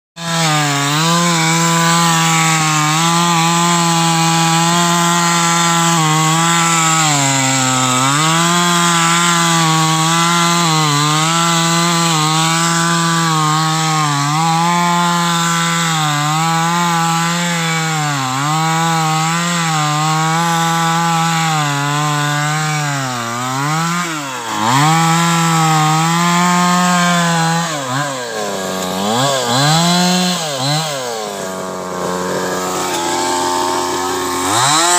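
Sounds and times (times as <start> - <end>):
chainsaw cutting through wood: 0.2 - 34.9.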